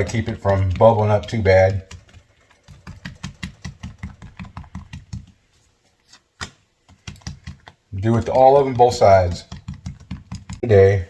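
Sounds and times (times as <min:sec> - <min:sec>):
fork tapping tortillas: 0:00.0 - 0:05.4, 0:06.4 - 0:10.7.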